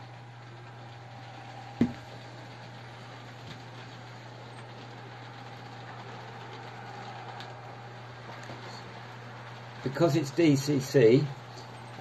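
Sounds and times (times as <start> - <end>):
model train wheels rolling: 0.0 - 12.0.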